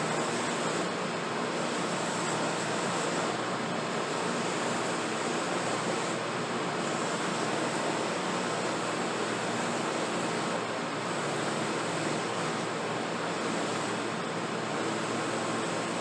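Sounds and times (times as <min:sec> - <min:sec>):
workshop machine rushing noise: 0:00.0 - 0:16.0.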